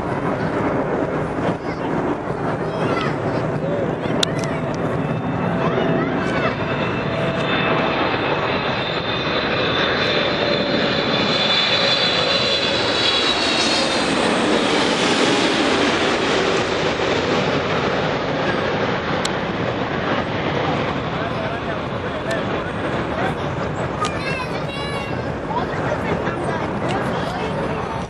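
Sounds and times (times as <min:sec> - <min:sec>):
jet engines passing: 0:00.0 - 0:28.0.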